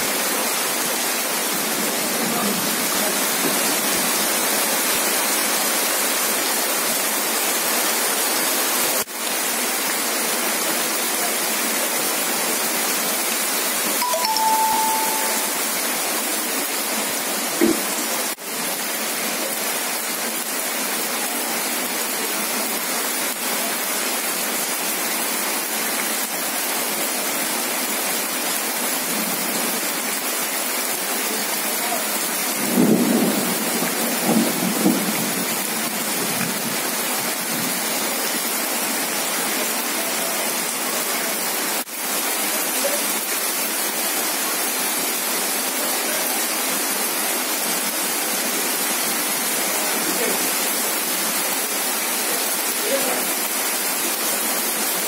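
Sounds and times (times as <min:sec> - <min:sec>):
heavy rain on ground: 0:00.0 - 0:55.0.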